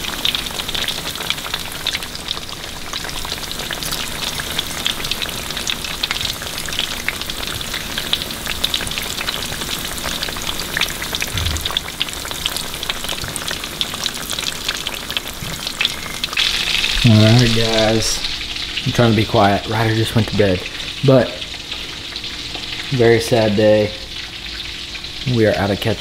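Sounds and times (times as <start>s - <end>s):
deep-frying crackle and sizzle: 0.0s - 26.0s.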